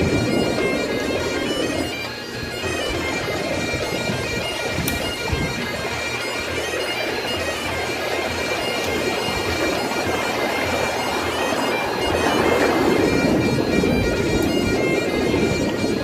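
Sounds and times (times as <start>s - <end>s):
reedy drone music: 0.0s - 16.0s.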